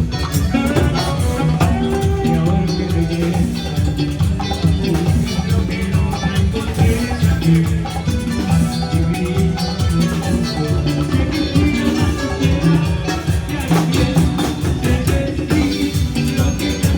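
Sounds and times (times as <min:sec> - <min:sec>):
band playing dance music: 0:00.0 - 0:16.9
bass line: 0:00.0 - 0:16.9
drums: 0:00.0 - 0:16.9
shaken percussion: 0:00.0 - 0:16.9.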